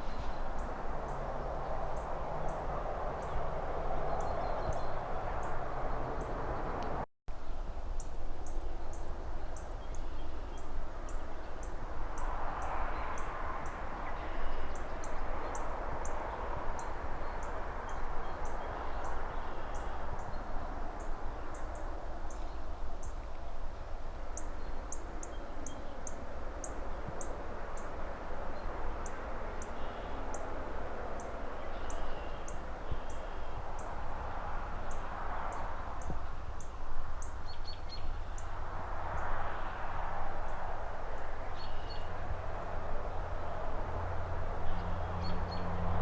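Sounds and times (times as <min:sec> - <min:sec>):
distant traffic: 0:00.0 - 0:46.0
rustling trees: 0:00.0 - 0:46.0.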